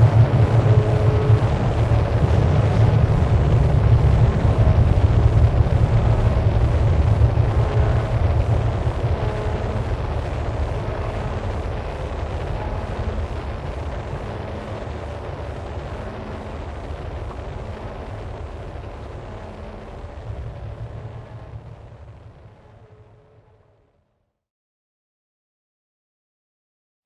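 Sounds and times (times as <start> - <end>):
rumbling noise music: 0.0 - 24.0.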